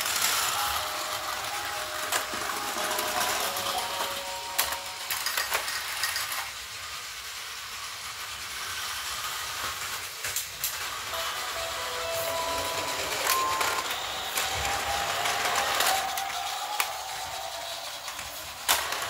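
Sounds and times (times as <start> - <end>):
toy train clicks: 0.0 - 19.0
toy train motors whirring: 0.0 - 19.0.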